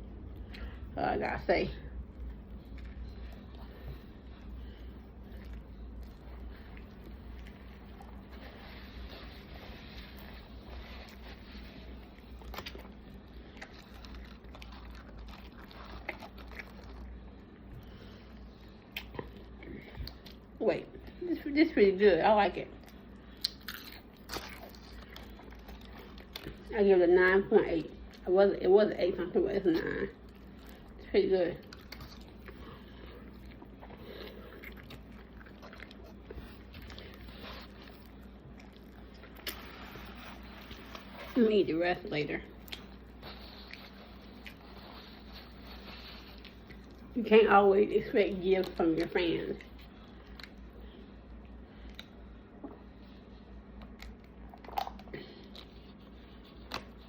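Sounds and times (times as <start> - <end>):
steady low hum: 0.0 - 57.0
person chewing food: 1.9 - 21.2, 22.7 - 26.7, 27.8 - 28.2, 29.7 - 41.4, 42.4 - 47.2, 48.5 - 57.0.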